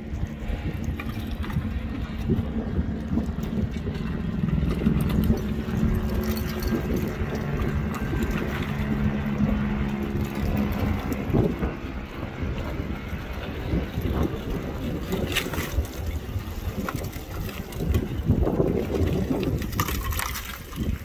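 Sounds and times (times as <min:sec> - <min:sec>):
lava crust cracking and clinking: 0:00.0 - 0:21.0
low engine hum: 0:00.0 - 0:21.0
wind rumbling on microphone: 0:00.0 - 0:21.0.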